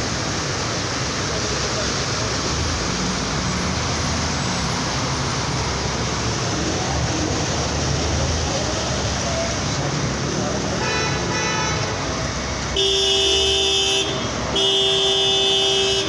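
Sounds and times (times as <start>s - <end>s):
vehicle engines running low: 0.0s - 16.0s
water and tyres rushing: 0.0s - 16.0s.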